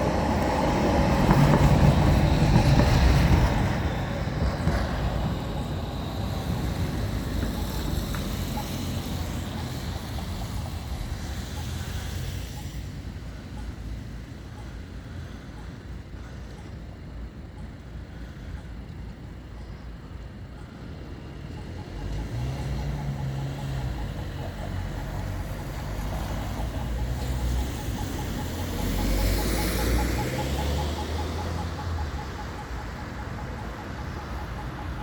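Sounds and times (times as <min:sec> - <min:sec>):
wheels hissing on rail: 0:00.0 - 0:14.9, 0:20.8 - 0:34.2
tram motor hum and rumble: 0:00.0 - 0:35.0.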